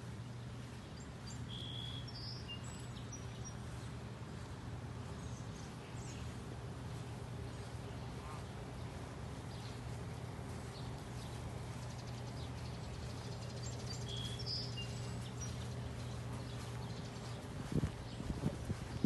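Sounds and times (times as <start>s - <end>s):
low outdoor hum: 0.0s - 19.0s
small birds chirping: 0.0s - 19.0s.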